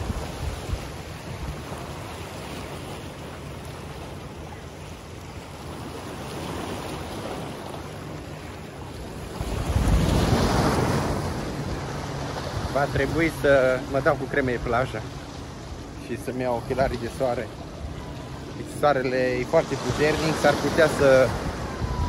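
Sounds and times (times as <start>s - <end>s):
wind rumbling on microphone: 0.0s - 18.7s, 19.5s - 22.0s
waves washing on rocky shore: 0.0s - 22.0s.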